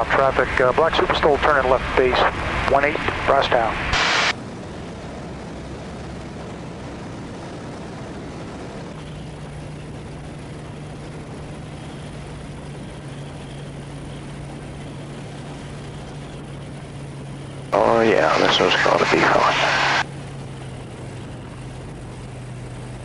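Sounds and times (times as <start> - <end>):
aircraft engine and propeller drone: 0.0 - 23.0
low steady hum: 0.0 - 23.0.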